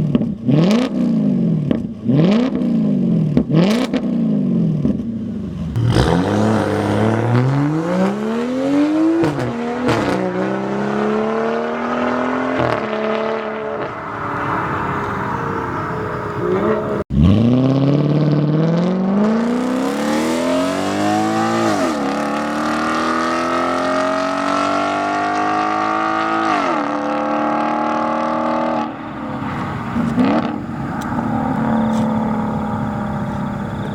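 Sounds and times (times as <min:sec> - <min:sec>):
car engine revving hard: 0:05.2 - 0:33.9.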